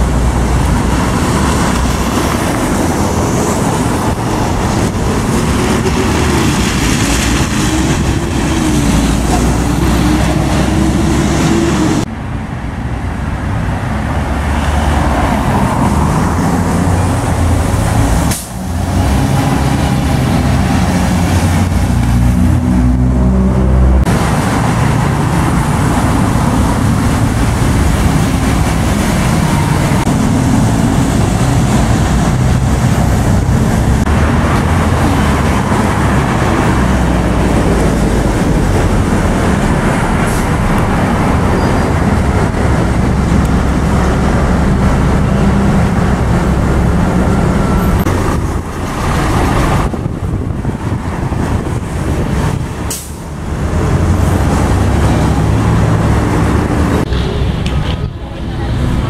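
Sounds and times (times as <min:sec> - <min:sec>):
bus engine rumble: 0:00.0 - 0:59.0
street traffic road noise: 0:00.0 - 0:59.0.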